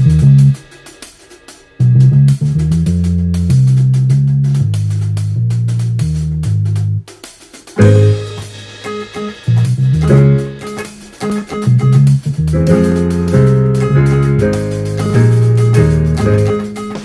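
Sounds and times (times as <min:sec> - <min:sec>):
funk-pop music with bass line: 0:00.0 - 0:00.8, 0:01.8 - 0:17.0.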